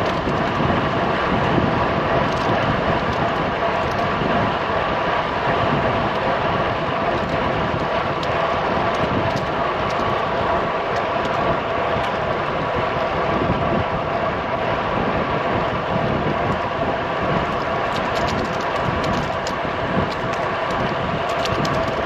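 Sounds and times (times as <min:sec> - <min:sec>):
bicycle tyre noise: 0:00.0 - 0:22.0
wind rushing on microphone: 0:00.0 - 0:22.0.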